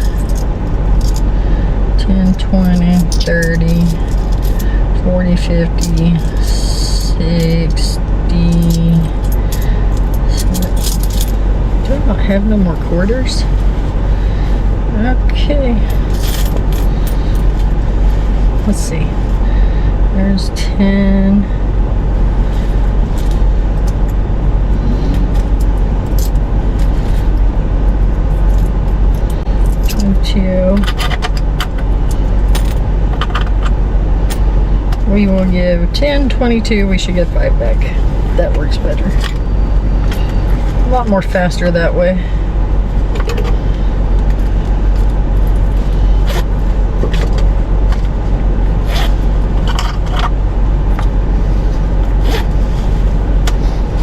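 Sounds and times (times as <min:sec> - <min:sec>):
air conditioning running: 0:00.0 - 0:54.0
car engine idling: 0:00.0 - 0:54.0.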